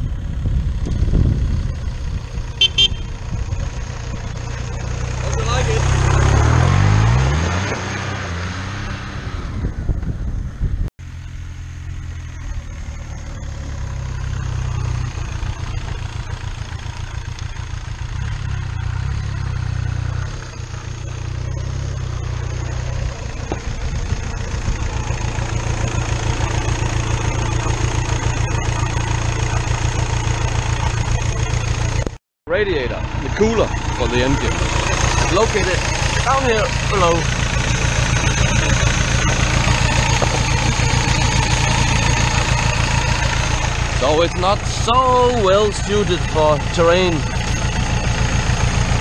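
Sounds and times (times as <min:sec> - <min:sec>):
diesel engine idling: 0:00.0 - 0:07.6, 0:08.2 - 0:49.0
diesel motorcycle passing: 0:00.0 - 0:49.0.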